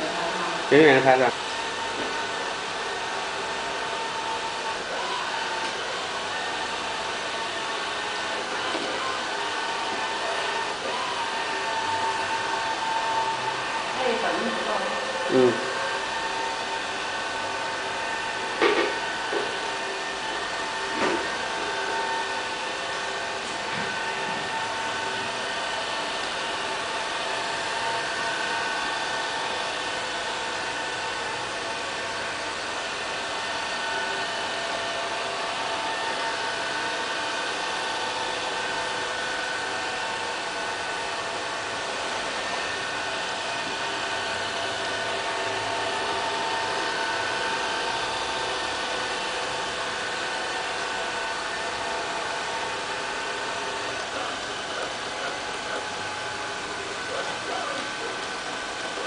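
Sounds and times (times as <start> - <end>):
robot vacuum cleaner whirring: 0.0 - 59.0.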